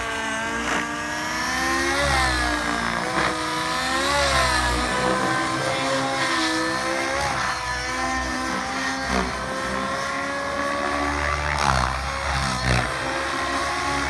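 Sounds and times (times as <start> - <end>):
rc helicopter engine and rotor: 0.0 - 14.0.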